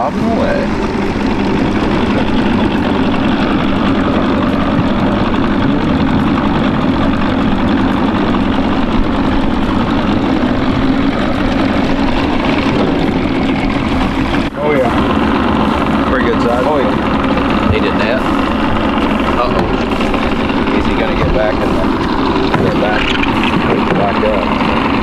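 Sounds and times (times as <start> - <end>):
outboard motor humming: 0.0 - 25.0
water noise: 0.0 - 25.0
wind: 0.0 - 25.0.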